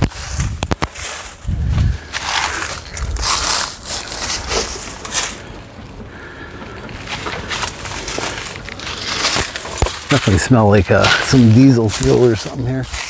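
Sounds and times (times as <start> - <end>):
footsteps crunching on debris: 0.0 - 13.0.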